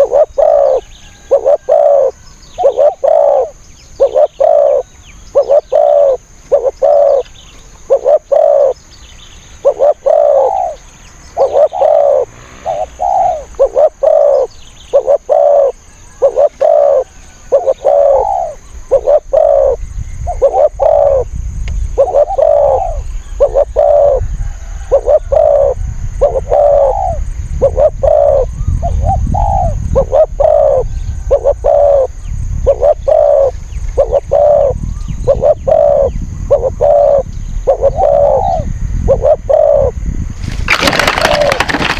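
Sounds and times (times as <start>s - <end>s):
doves cooing: 0.0s - 8.8s, 9.6s - 21.3s, 21.9s - 41.9s.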